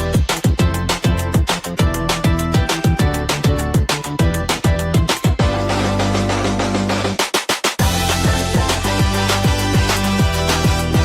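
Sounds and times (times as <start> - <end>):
sustained bass and chord: 0.0 - 7.2, 7.8 - 11.0
electronic beat: 0.0 - 11.0.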